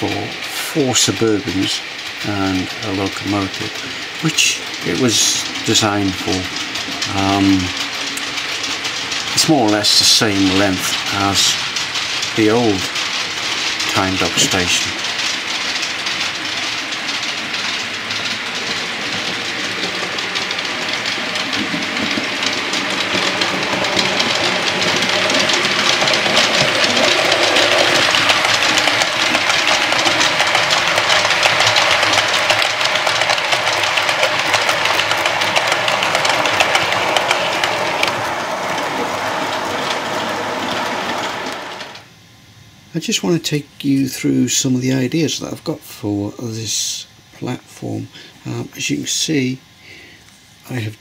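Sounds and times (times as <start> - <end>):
model train wheels clicking: 0.0 - 42.1, 47.5 - 49.6.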